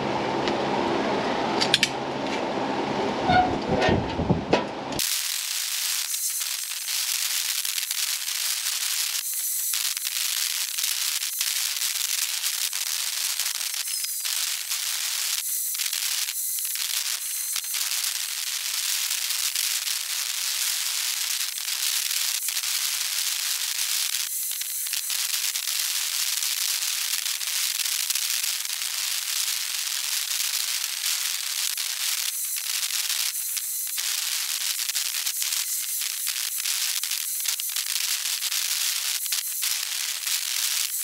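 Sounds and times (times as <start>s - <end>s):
fast-forwarded crackling hiss: 5.0s - 41.0s.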